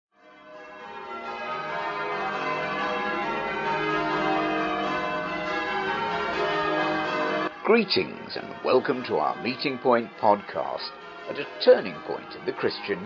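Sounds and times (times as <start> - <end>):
church bells ringing: 0.2 - 13.0.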